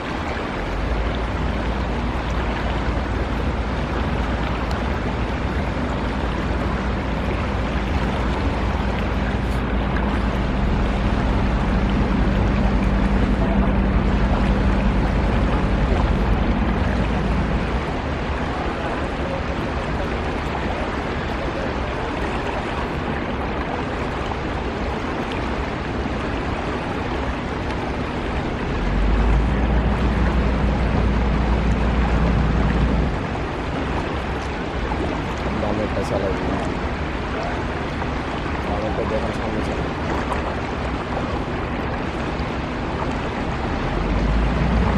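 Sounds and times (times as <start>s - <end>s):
boat engine humming: 0.0s - 44.9s
rush of wind and water: 0.0s - 44.9s.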